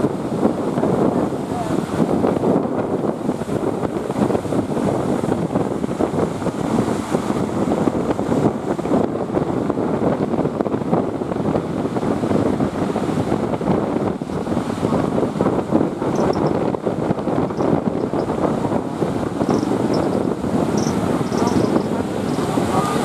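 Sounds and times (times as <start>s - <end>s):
sea surf rushing: 0.0s - 23.0s
wind buffeting microphone: 0.0s - 23.0s.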